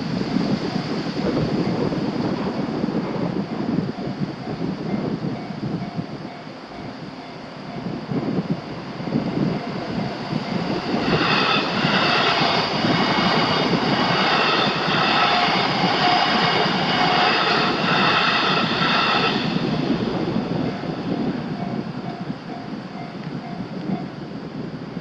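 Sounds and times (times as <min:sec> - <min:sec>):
train rumbling: 0:00.0 - 0:25.0
high-pitched train tones: 0:00.5 - 0:24.3.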